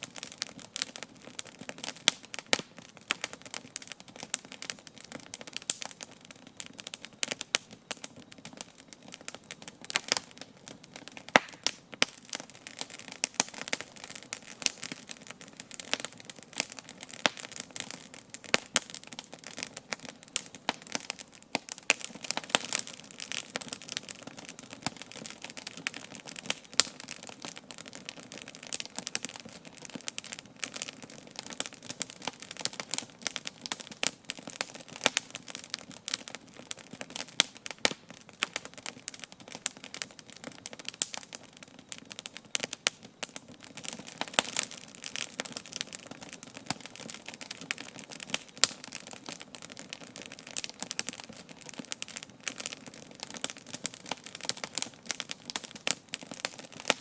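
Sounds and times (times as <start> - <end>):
burning wood snapping: 0.0 - 57.0
soft fire hiss: 0.0 - 57.0.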